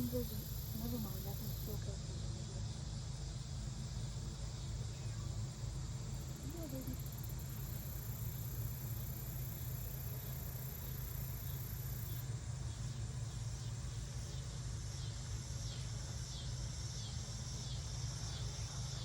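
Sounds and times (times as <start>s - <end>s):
insects chirping: 0.0s - 19.0s
low steady hum: 0.0s - 19.0s.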